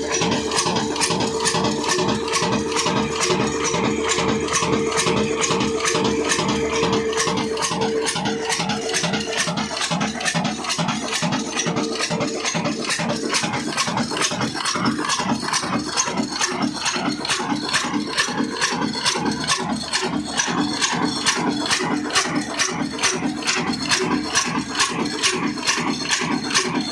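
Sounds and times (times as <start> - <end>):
diesel engine knocking: 0.0 - 26.9.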